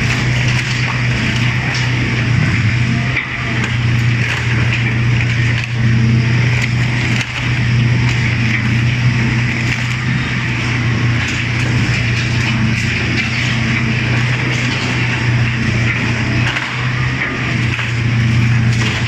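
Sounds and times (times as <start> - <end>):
shredder drive hum: 0.0 - 19.0
plastic cracking and crunching: 3.5 - 19.0.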